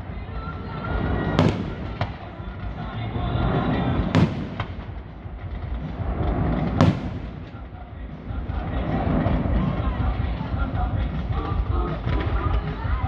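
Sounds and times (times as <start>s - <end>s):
fireworks bangs: 0.0s - 13.0s
steady low rumble: 0.0s - 13.0s.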